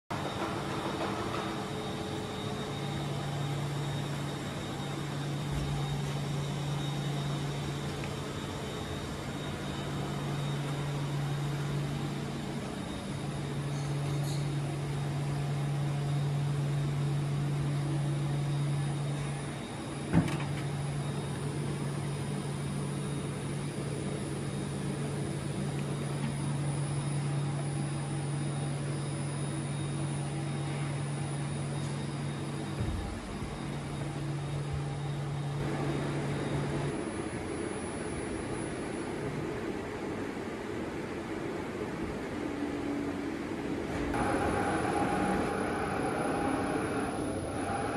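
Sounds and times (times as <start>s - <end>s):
factory machine hum: 0.1s - 47.9s.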